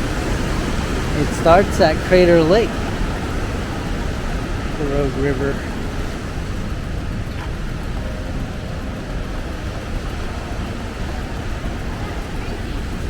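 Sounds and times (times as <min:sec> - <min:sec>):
whitewater rushing through gorge: 0:00.0 - 0:13.0.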